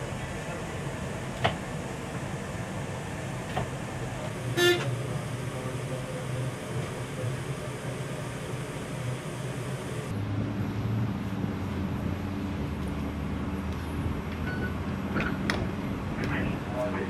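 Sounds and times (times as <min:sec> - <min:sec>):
electric tram humming: 0:00.0 - 0:17.0
road traffic noise: 0:00.0 - 0:17.0.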